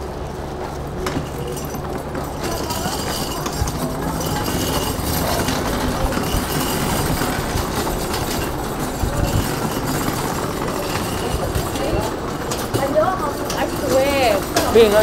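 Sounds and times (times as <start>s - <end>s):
trolley wheels rattling on concrete: 0.0s - 15.0s.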